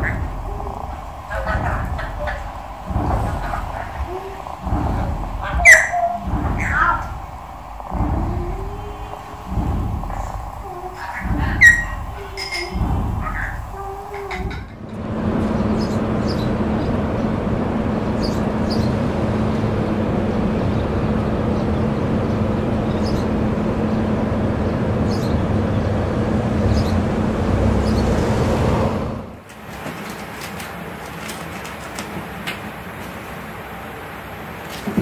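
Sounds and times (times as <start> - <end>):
loud mechanical hum: 0.0 - 35.0.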